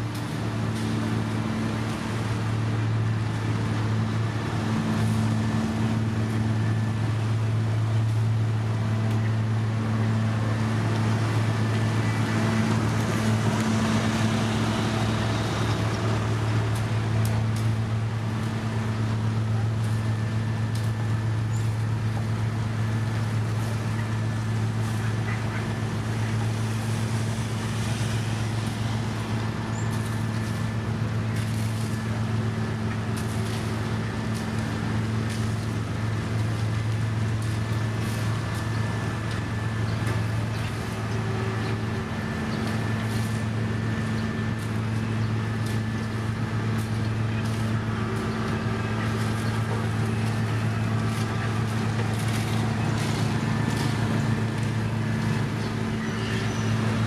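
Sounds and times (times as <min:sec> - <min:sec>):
heavy machinery engine humming: 0:00.0 - 0:57.0.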